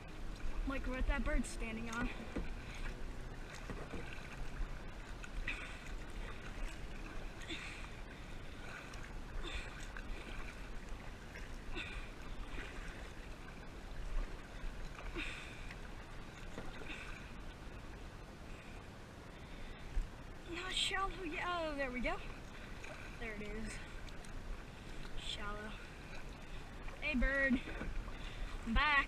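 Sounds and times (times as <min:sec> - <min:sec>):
paddle strokes splashing water: 0:00.0 - 0:29.0.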